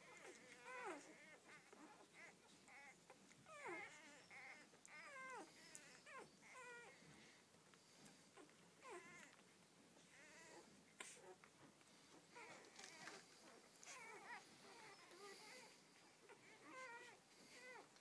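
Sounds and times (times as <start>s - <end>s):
puppies crying: 0.0s - 7.4s, 8.4s - 11.5s, 12.2s - 18.0s.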